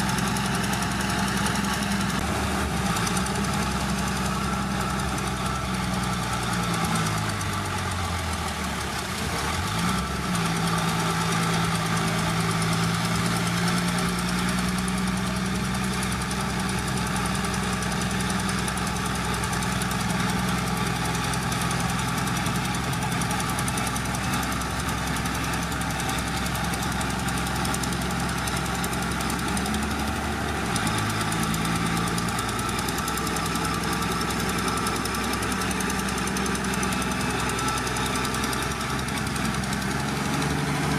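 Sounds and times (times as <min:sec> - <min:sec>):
diesel engine under load: 0:00.0 - 0:40.9.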